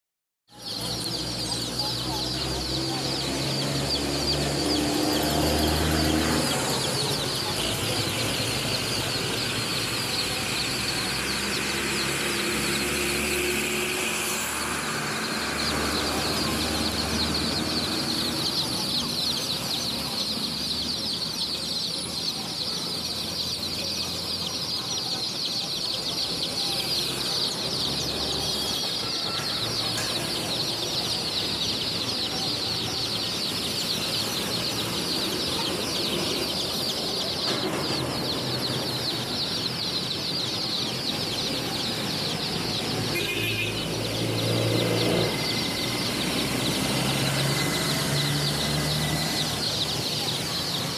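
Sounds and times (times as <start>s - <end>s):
chicks peeping: 0.6s - 50.9s.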